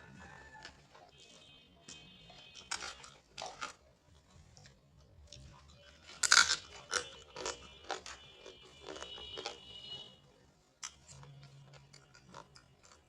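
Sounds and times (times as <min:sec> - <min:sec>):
chewing with crunches and smacks: 0:00.0 - 0:13.0.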